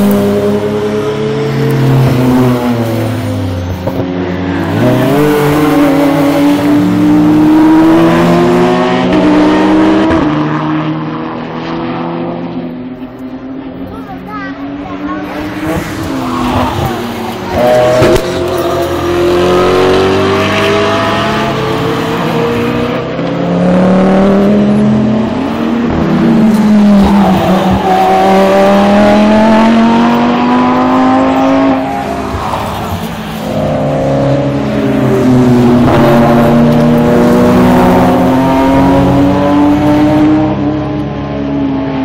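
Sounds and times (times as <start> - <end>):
race cars passing at speed: 0.0 - 42.0.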